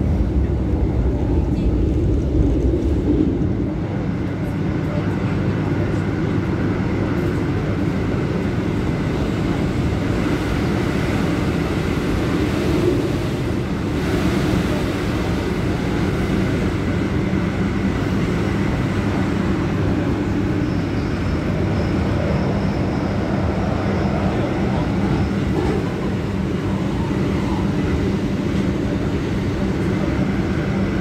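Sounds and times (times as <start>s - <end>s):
train running inside carriage: 0.0s - 31.0s.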